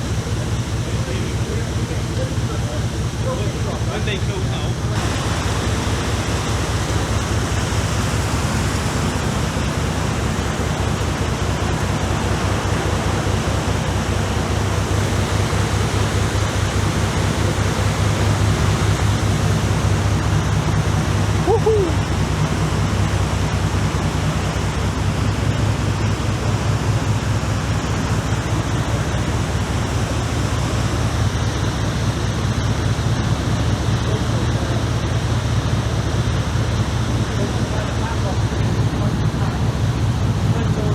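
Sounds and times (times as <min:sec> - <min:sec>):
boat engine drone: 0:00.0 - 0:40.9
rush of wind and water: 0:00.0 - 0:40.9.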